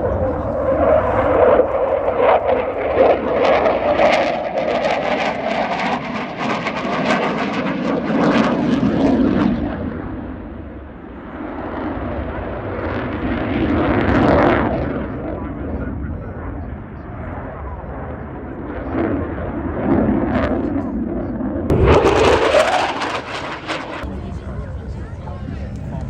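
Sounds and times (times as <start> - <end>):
crackling fighter jet noise: 0.0 - 26.0.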